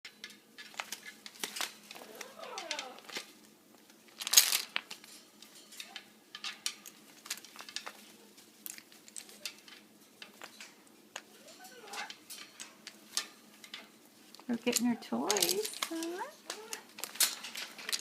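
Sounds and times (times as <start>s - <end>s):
birds clicking and rustling: 0.1s - 18.0s.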